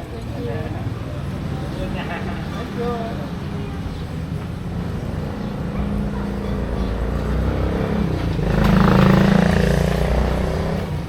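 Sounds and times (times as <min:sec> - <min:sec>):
vehicle engine passing by: 0:00.4 - 0:11.0.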